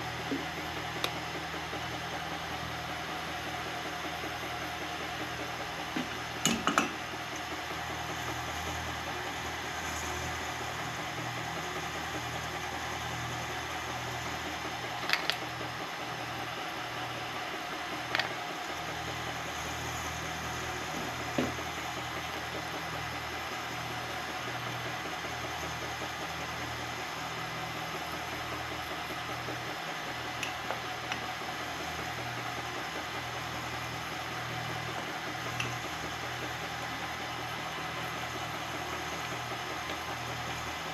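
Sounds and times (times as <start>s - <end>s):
milling machine motor humming: 0.0s - 40.9s.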